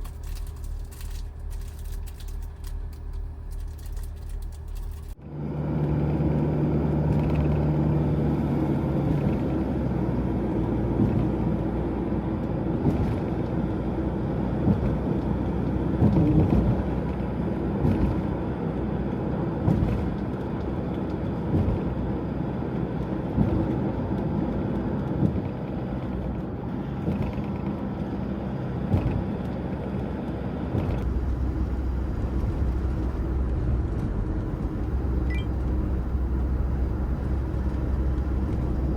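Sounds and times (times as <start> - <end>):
van engine and road rumble: 0.0 - 38.9.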